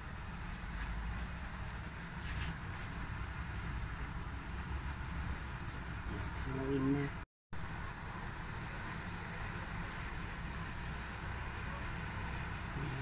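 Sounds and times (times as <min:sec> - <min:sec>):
steady rushing noise at stove: 0:00.0 - 0:13.0.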